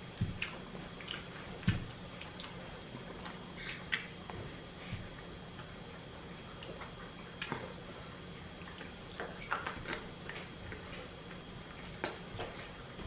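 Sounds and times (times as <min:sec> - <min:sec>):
chewing crunchy taco shell: 0:00.0 - 0:04.4, 0:05.6 - 0:13.0.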